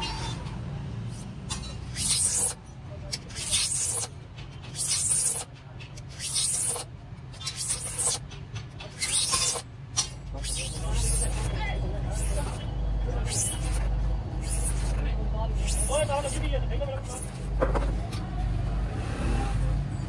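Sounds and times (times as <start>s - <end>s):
metal tool scraping plastic sheet: 1.1s - 18.2s.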